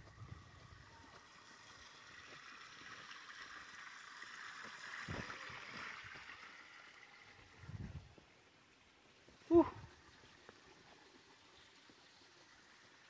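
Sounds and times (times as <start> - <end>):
small stream of running water: 0.0 - 13.0.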